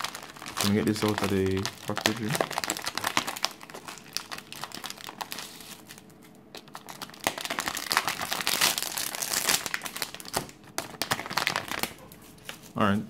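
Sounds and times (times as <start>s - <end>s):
plastic packaging crinkling: 0.0s - 12.9s.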